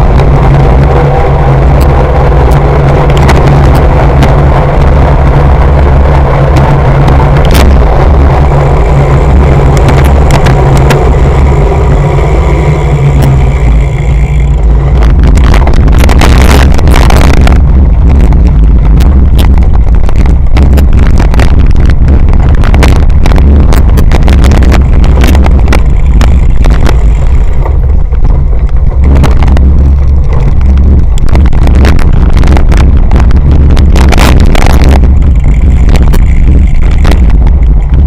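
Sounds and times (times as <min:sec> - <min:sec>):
knocks and clatters of bike: 0:00.0 - 0:38.0
wind buffeting: 0:00.0 - 0:38.0.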